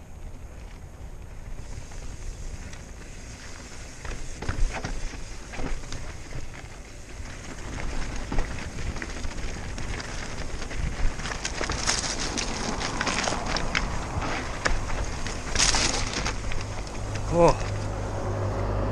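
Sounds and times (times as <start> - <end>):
bike clicks and rattles: 0.0 - 18.0
tyres crunching over stones: 0.0 - 18.2
wind rumble on microphone: 0.0 - 18.9.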